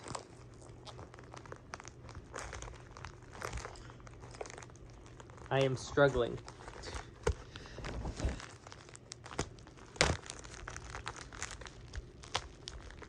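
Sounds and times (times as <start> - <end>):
package wrapping crinkling and tearing: 0.0 - 13.0.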